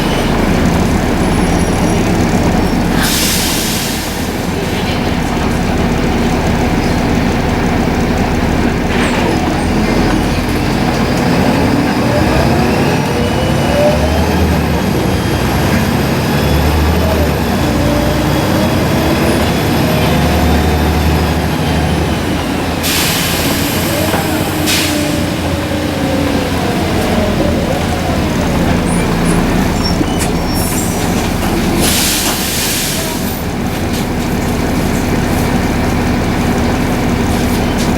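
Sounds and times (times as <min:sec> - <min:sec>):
bus diesel engine: 0:00.0 - 0:37.9.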